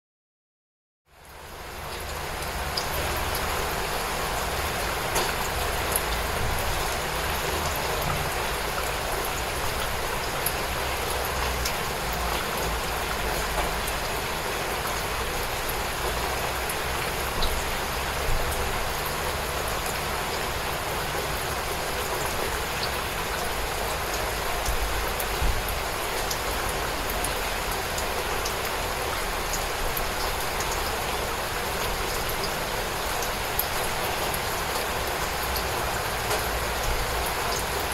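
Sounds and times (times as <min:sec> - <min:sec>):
gentle rain hiss: 0:01.1 - 0:37.9
raindrops ticking: 0:01.8 - 0:37.9.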